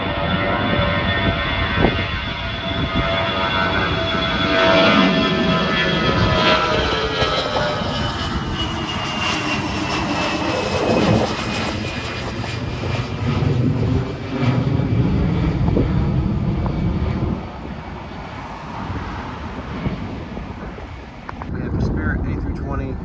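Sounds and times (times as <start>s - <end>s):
jet engines whining: 0.0s - 22.6s.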